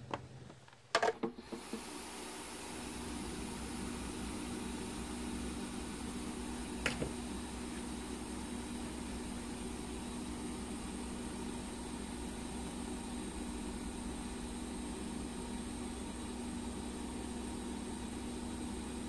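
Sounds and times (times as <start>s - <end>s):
hot air station blowing hiss: 1.4s - 19.0s
low steady hum: 2.5s - 19.0s.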